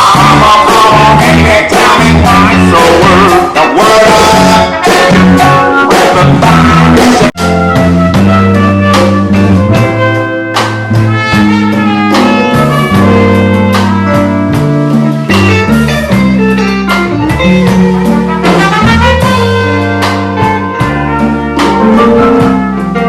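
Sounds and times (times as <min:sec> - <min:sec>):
live funk band playing: 0:00.0 - 0:23.0.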